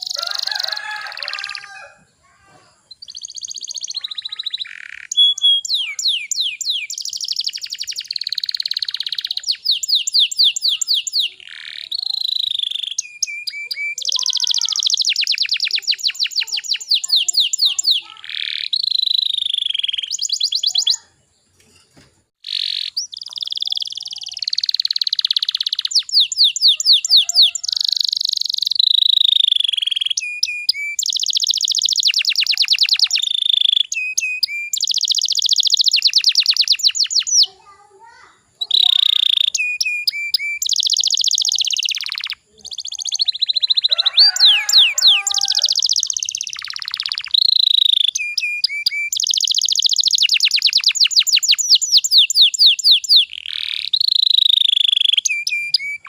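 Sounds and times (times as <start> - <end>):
canary singing trills: 0.0 - 2.2, 2.8 - 21.6, 22.4 - 56.0.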